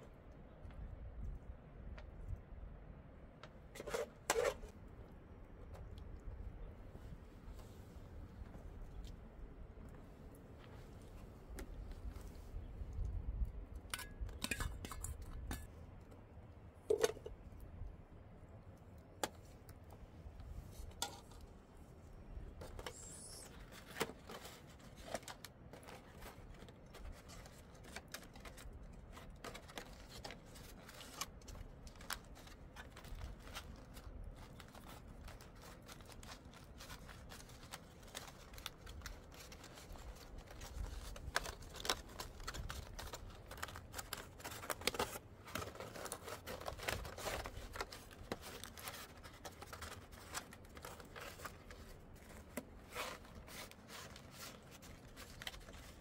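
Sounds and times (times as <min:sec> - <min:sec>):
clicks and knocks of objects handled: 0:03.3 - 0:06.4, 0:08.4 - 0:17.9, 0:18.6 - 0:21.6, 0:22.5 - 0:56.0.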